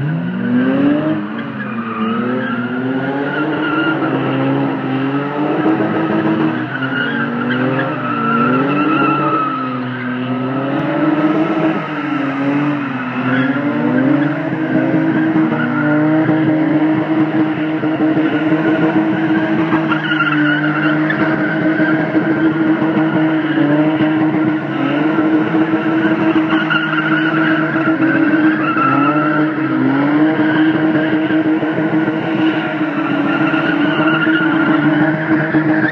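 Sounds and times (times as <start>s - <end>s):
car engines revving high: 0.0s - 35.9s
tyres squealing on tarmac: 0.0s - 35.9s.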